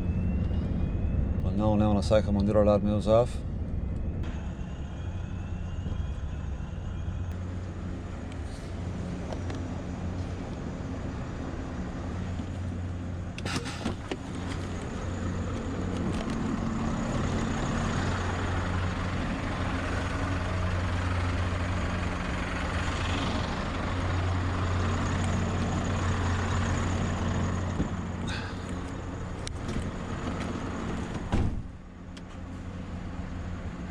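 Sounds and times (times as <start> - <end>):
truck engine running: 3.4 - 33.9.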